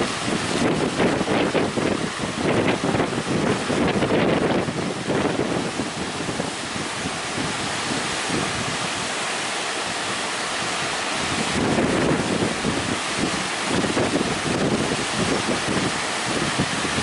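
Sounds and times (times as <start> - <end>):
breaking surf: 0.0 - 17.0
wind buffeting microphone: 0.0 - 17.0.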